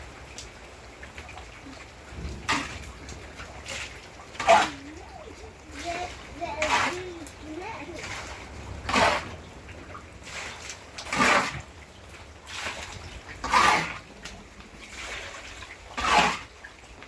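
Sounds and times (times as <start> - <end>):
water splashing: 0.0 - 17.0.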